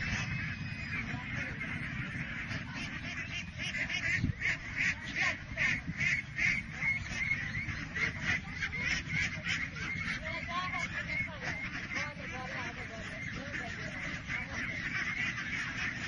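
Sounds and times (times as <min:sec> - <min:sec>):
flock of ducks quacking: 0:00.0 - 0:16.0
steady low rumble: 0:00.0 - 0:16.0.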